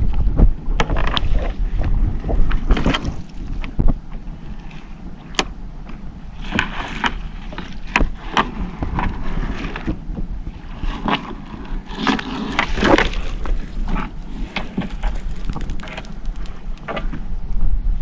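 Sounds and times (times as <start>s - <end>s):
water: 0.0s - 18.0s
wind: 0.0s - 18.0s.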